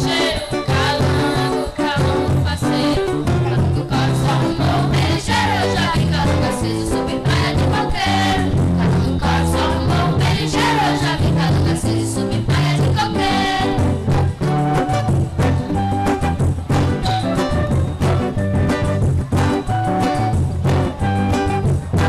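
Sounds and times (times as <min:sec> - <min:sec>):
band playing upbeat song: 0:00.0 - 0:22.0.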